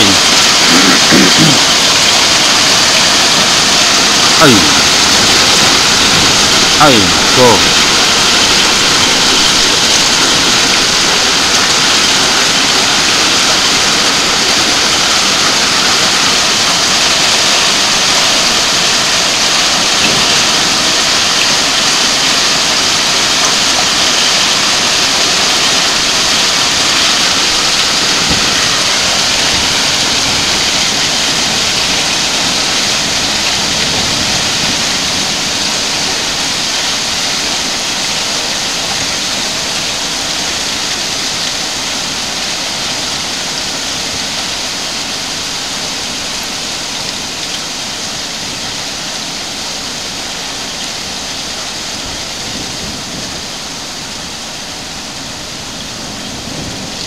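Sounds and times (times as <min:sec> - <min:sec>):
heavy hail and rain: 0:00.0 - 0:57.0.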